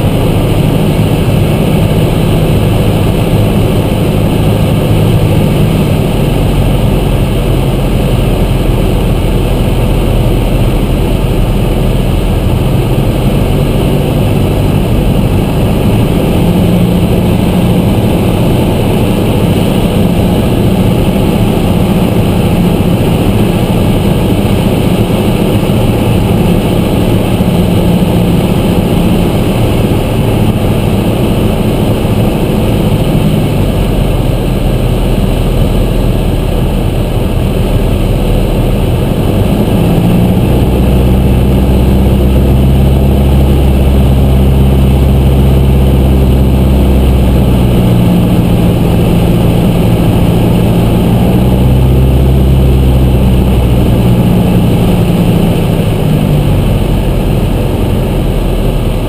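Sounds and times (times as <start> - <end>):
airflow noise: 0.0 - 59.0
airplane engine and propeller: 0.0 - 59.0.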